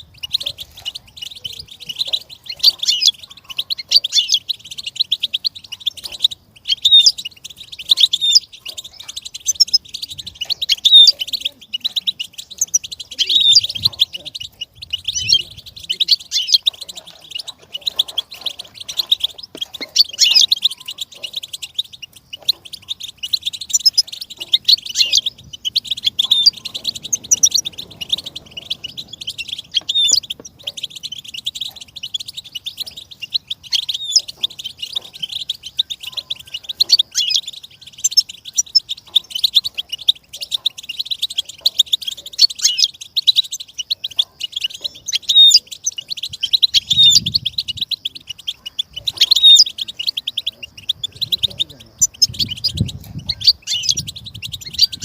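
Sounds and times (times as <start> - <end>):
bird chirping and trilling: 0.0 - 55.0.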